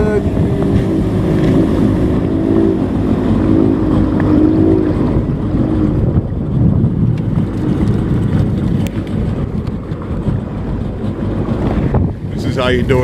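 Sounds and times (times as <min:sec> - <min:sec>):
jet ski engine running: 0:00.0 - 0:13.0
wind on microphone: 0:00.0 - 0:13.0.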